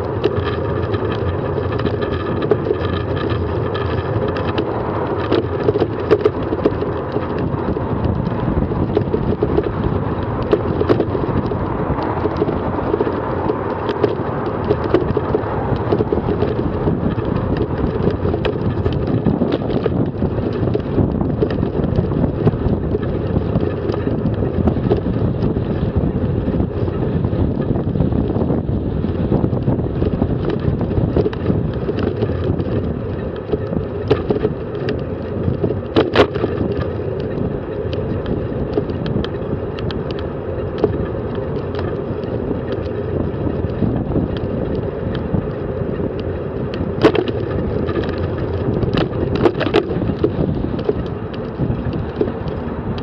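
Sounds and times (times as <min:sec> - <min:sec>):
bicycle knocks and rattles: 0:00.0 - 0:53.0
bicycle tyres rumbling: 0:00.0 - 0:53.0
wind buffeting microphone: 0:00.0 - 0:53.0.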